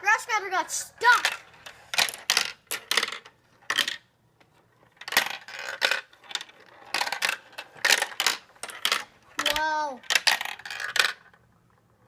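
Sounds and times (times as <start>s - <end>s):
marbles clattering along track: 0.1s - 4.1s, 4.8s - 11.8s.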